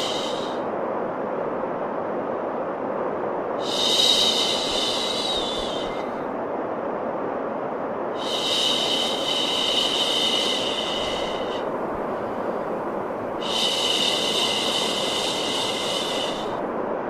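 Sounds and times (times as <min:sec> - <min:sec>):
steady white noise: 0:00.0 - 0:17.0.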